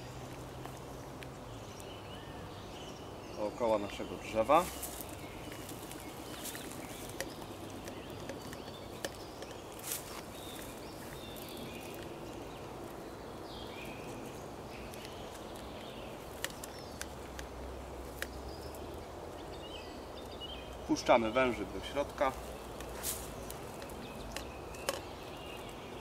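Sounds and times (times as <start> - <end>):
birds chirping: 0.0 - 26.0
outdoor background hiss: 0.0 - 26.0.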